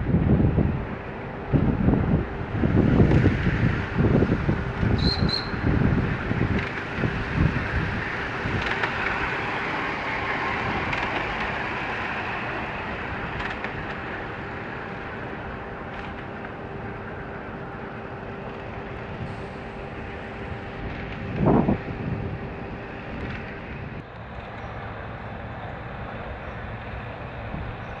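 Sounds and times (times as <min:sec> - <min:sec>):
model steam locomotive passing: 0:00.0 - 0:28.0.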